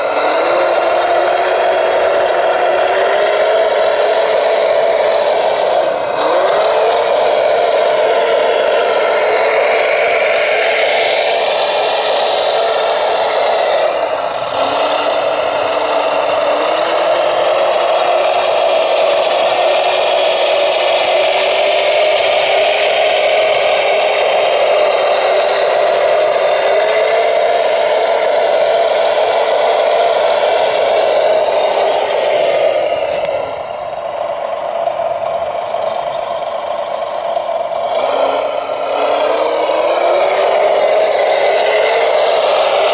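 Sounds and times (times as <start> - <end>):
electric model car whine: 0.0 - 42.9.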